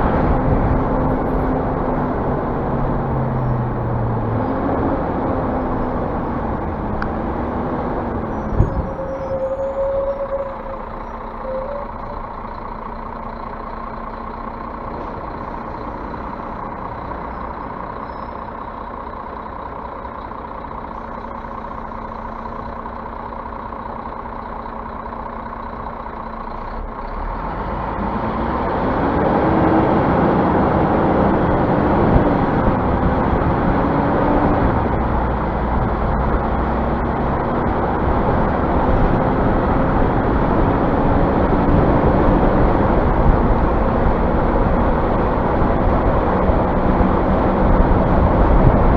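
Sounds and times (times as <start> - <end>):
bus engine revving: 0.0 - 24.6, 25.2 - 48.9.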